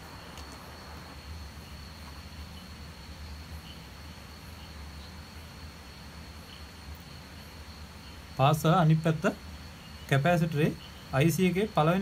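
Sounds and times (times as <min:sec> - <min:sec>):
continuous low hum: 0:00.0 - 0:12.0
steady high-pitched whine: 0:00.0 - 0:12.0.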